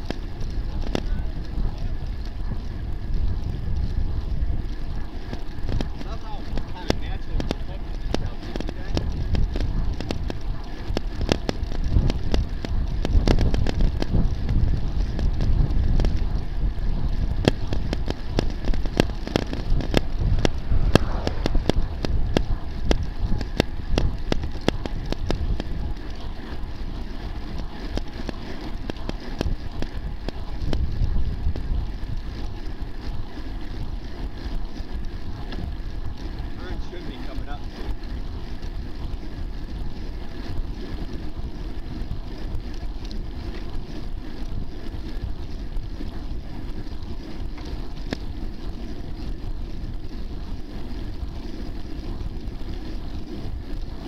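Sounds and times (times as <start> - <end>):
tyre rumble on asphalt: 0.0 - 54.0
wind on microphone: 0.0 - 54.0.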